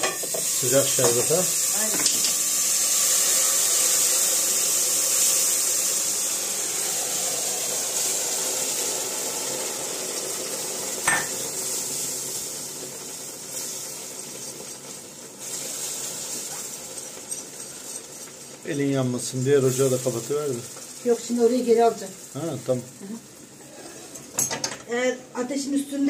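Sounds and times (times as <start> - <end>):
syrup sizzling in pot: 0.0 - 24.4.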